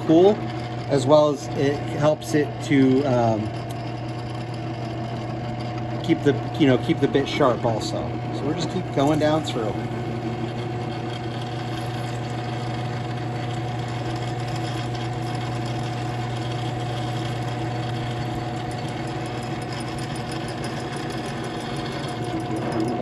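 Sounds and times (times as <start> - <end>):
drill press boring steel: 0.0 - 23.0.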